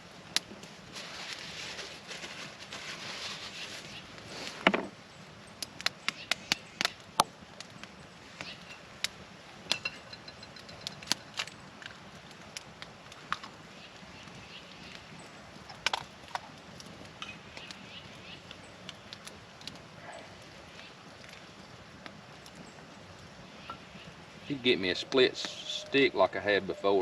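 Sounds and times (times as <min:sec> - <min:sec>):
faint rustling hiss: 0:00.0 - 0:27.0.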